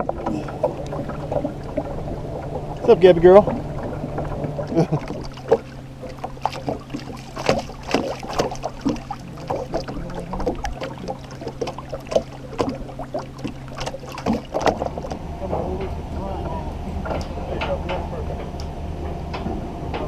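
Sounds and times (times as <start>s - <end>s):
outboard motor humming: 0.0s - 20.0s
water slapping boat hull: 0.0s - 20.0s.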